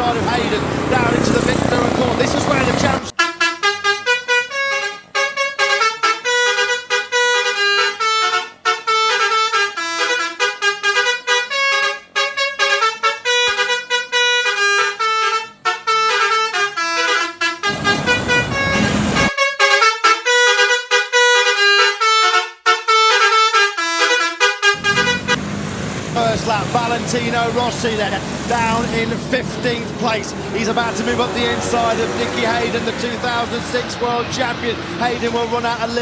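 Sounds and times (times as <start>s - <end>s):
multi-tone bus horn melody: 0.0s - 36.0s.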